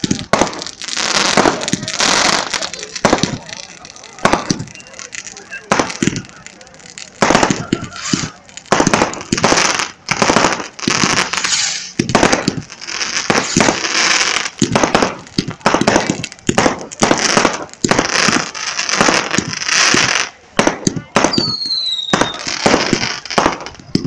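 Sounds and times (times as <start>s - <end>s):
fireworks bangs: 0.0s - 24.0s
fireworks crackling and hissing: 0.0s - 24.0s.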